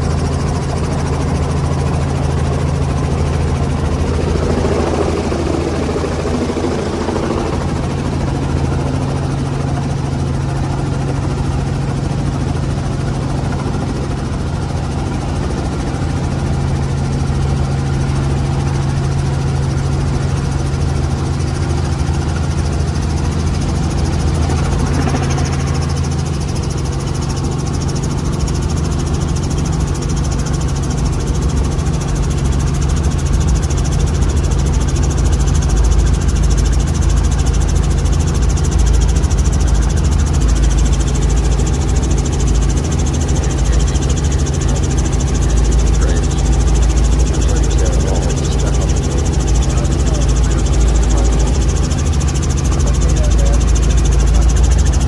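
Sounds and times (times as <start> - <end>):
helicopter engine and rotor running: 0.0 - 55.0.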